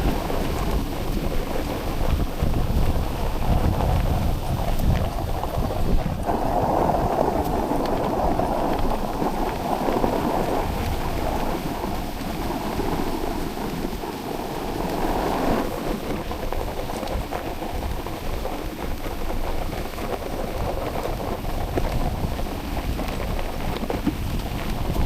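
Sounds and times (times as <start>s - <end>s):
patter of small ticks: 0.0s - 25.0s
sled runners scraping on snow: 0.0s - 25.0s
wind buffeting microphone: 0.0s - 25.0s.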